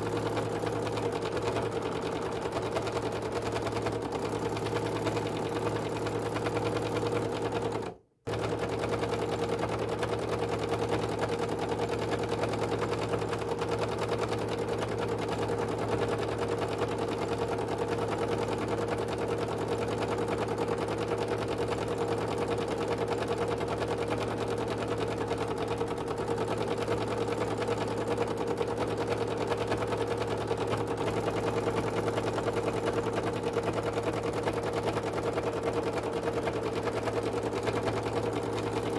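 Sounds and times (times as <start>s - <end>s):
sewing machine running: 0.0s - 38.9s.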